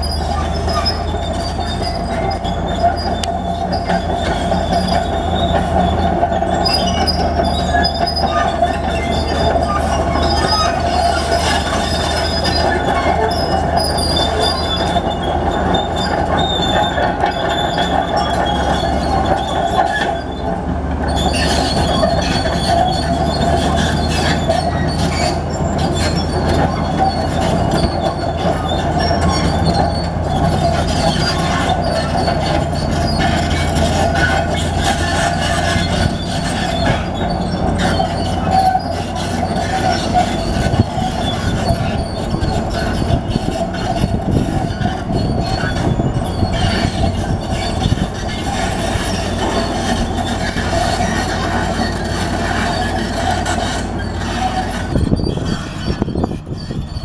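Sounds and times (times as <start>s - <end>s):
diesel engine drone: 0.0s - 57.0s
steel tracks squealing and clanking: 0.0s - 57.0s.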